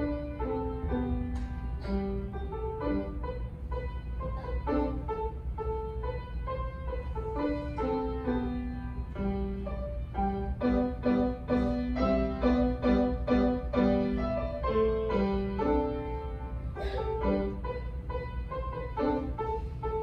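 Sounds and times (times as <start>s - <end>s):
solo grand piano: 0.0s - 20.0s
steady low hum: 0.0s - 20.0s.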